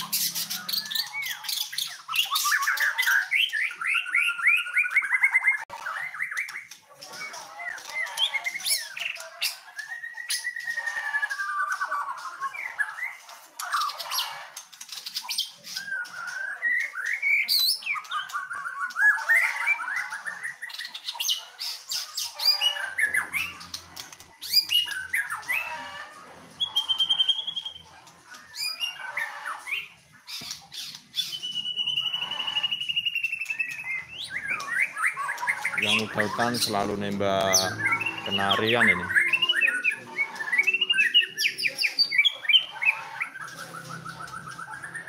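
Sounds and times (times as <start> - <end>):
bird singing whistles and chatter: 0.0 - 26.0, 26.6 - 45.0.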